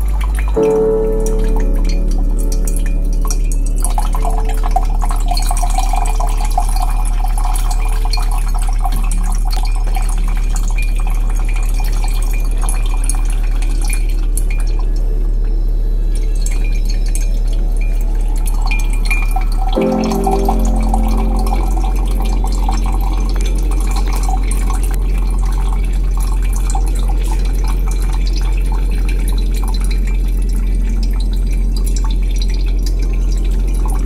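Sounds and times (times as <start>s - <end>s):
steady deep hum drone: 0.0s - 34.0s
water dripping and trickling: 0.0s - 34.0s.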